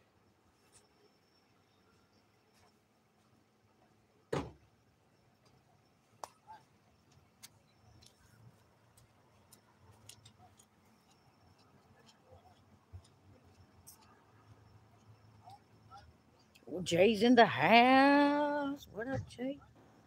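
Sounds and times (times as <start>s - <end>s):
quiet outdoor background: 0.0s - 20.0s.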